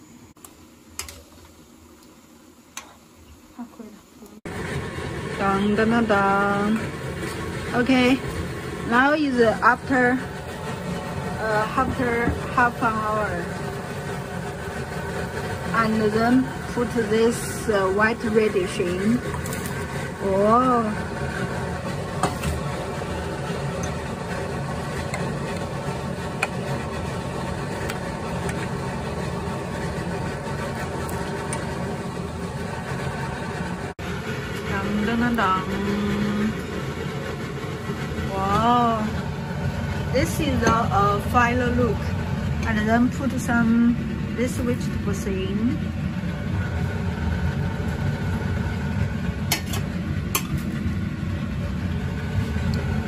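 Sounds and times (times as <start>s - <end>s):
low kitchen rumble: 0.0s - 53.0s
steady low hum: 0.0s - 53.0s.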